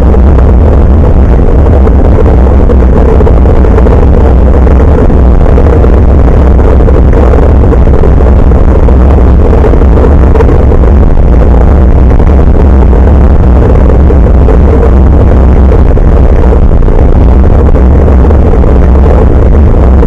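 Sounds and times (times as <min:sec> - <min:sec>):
road rumble: 0:00.0 - 0:20.0
wind on microphone: 0:00.0 - 0:20.0.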